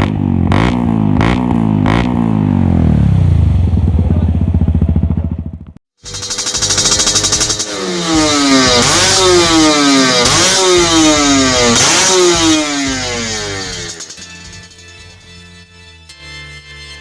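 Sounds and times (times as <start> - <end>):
motorcycle engine revving: 0.0 - 15.7.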